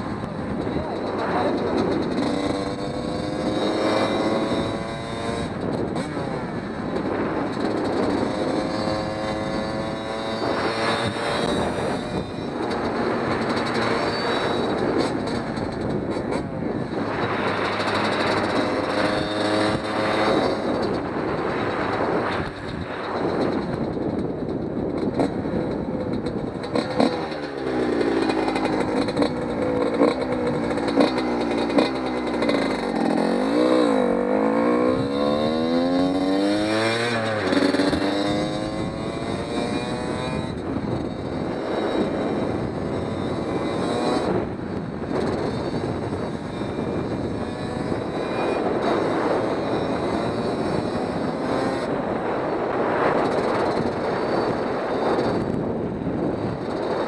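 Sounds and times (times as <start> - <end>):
two-stroke motorcycle engine: 0.0 - 57.0.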